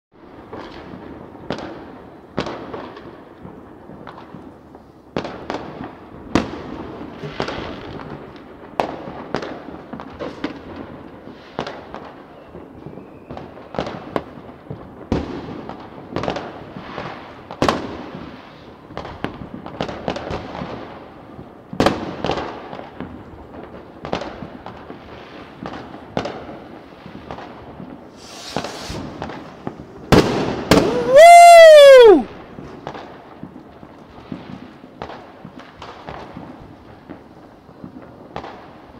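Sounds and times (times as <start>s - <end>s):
fireworks bangs and crackling: 0.2s - 38.9s.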